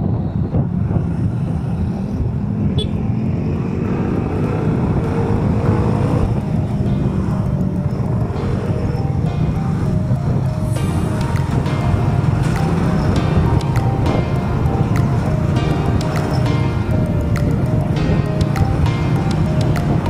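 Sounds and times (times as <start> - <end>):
wind rush on microphone: 0.0 - 20.0.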